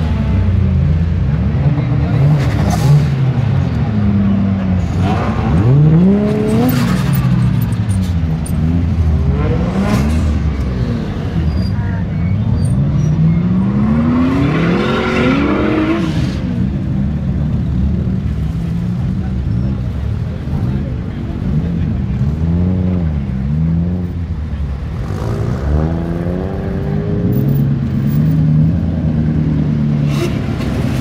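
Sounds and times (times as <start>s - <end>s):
car engines idling and revving: 0.0s - 31.0s.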